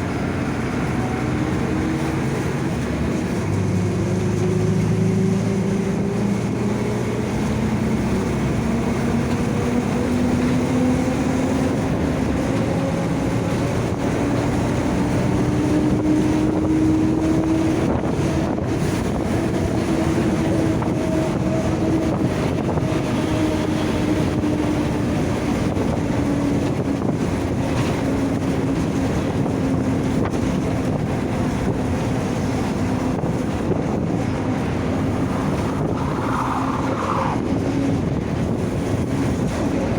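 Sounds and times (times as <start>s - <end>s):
bus differential whine: 0.0s - 39.9s
diesel engine drone: 0.0s - 39.9s
road and wind noise: 0.0s - 39.9s.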